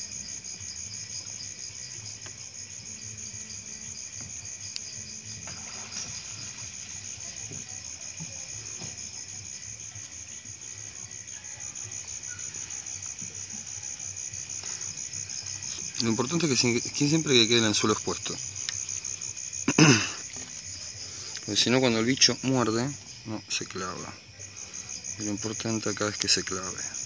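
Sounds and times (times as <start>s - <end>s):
crickets trilling: 0.0s - 27.0s.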